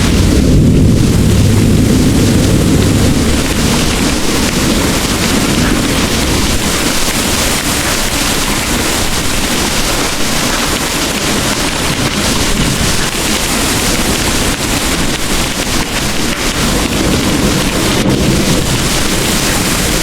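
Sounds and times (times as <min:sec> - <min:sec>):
heavy rain pouring: 0:00.0 - 0:20.0
low rumble: 0:00.0 - 0:20.0.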